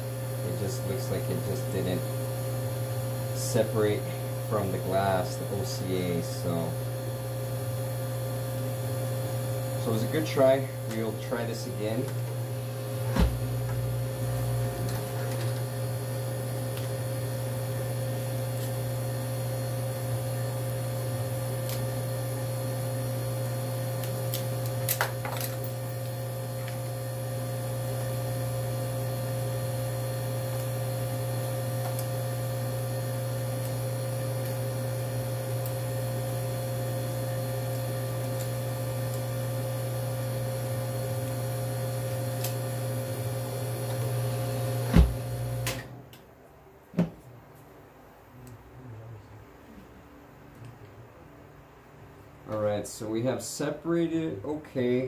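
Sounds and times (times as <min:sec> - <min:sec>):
freezer machine hum: 0:00.0 - 0:46.2.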